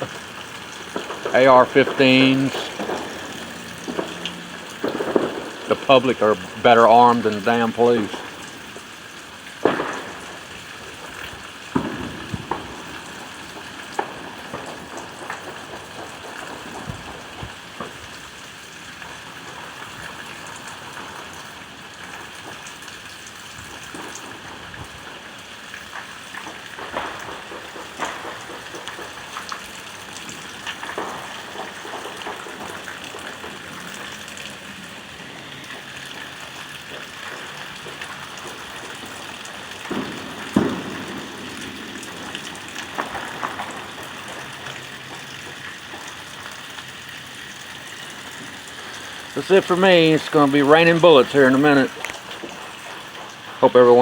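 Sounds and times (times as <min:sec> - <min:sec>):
distant fireworks and gunfire bangs: 0:00.0 - 0:54.0
steady rain: 0:00.0 - 0:54.0.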